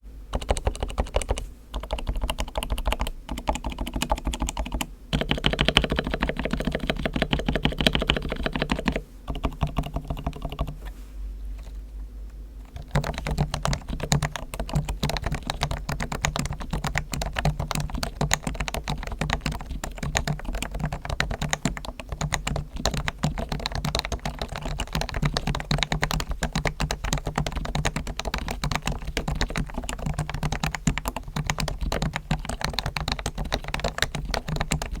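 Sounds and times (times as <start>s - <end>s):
fast keyboard typing: 0.3s - 10.8s, 12.6s - 35.0s.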